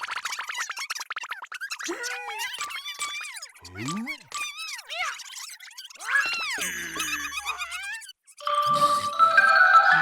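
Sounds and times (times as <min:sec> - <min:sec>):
squeaky cartoon creature chirps: 0:00.0 - 0:10.0.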